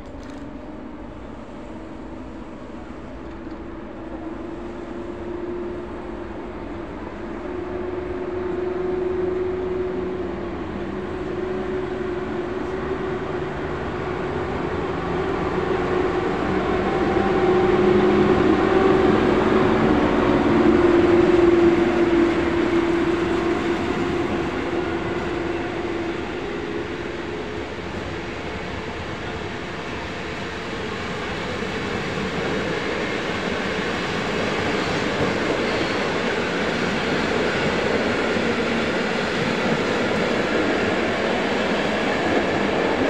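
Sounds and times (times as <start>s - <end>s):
electric locomotive hum: 0.0s - 43.0s
train wheels rumbling on rails: 0.0s - 43.0s.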